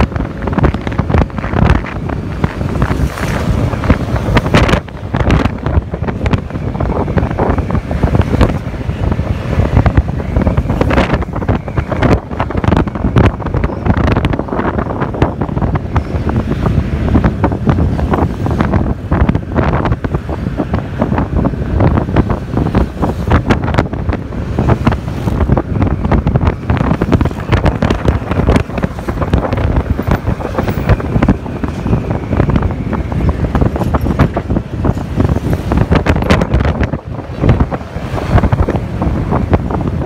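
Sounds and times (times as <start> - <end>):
motorcycle running: 0.0 - 40.0
wind buffeting microphone: 0.0 - 40.0.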